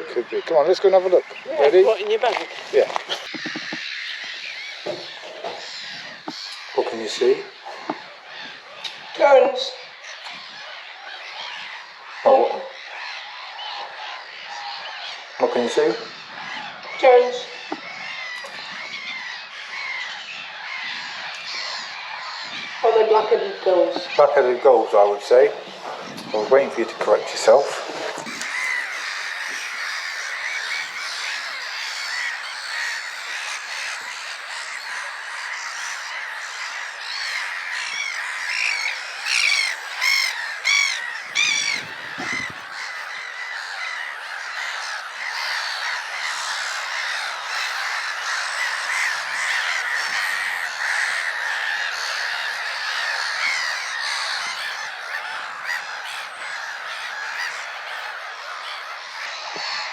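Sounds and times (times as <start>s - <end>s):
gulls calling: 0.0s - 59.9s.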